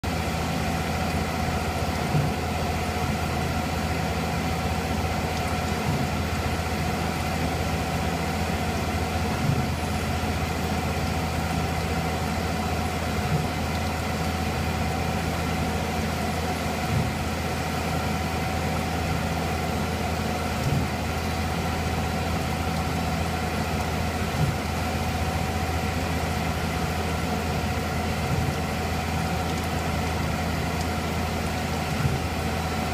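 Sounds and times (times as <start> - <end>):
milling machine running: 0.0 - 32.9.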